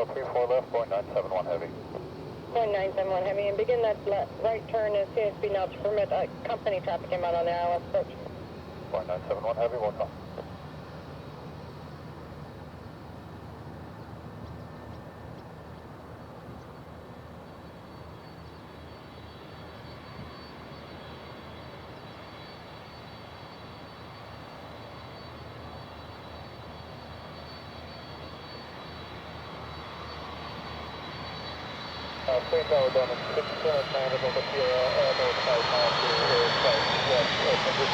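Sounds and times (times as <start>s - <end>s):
jet engines at takeoff whining: 0.0s - 37.9s.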